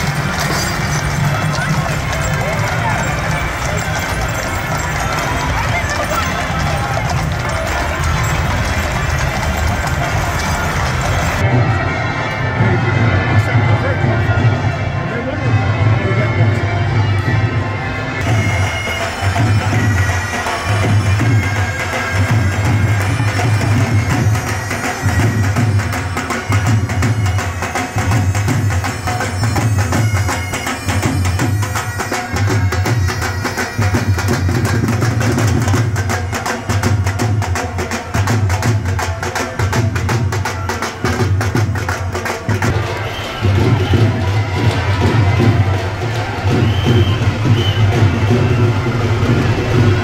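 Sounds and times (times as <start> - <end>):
bagpipes: 0.0 - 50.0.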